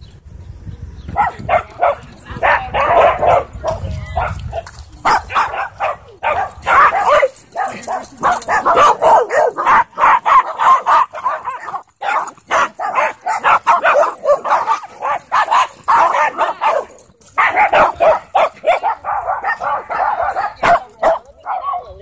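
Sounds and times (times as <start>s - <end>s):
dogs barking and yipping: 1.1s - 22.0s.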